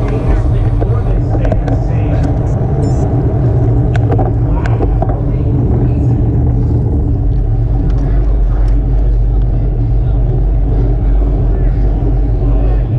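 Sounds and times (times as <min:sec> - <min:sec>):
bicycle tyres rolling on road: 0:00.0 - 0:12.9
wind rushing over microphone: 0:00.0 - 0:12.9.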